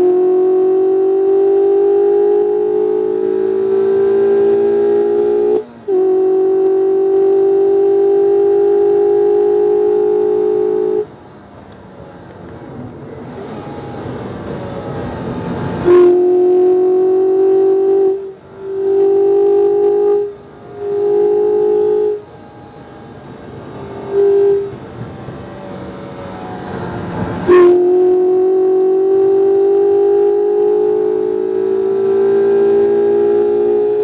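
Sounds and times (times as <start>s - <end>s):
car engine at high revs: 0.0s - 34.0s.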